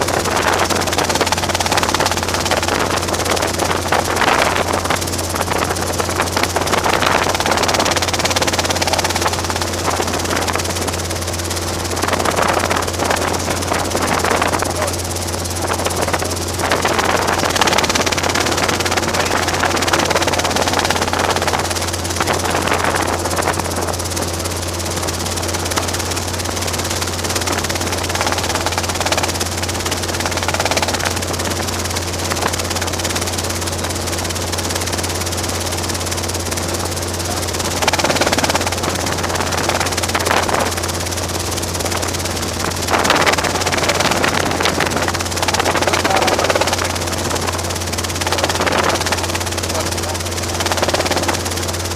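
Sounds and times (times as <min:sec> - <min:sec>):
helicopter engine and rotor drone: 0:00.0 - 0:51.9.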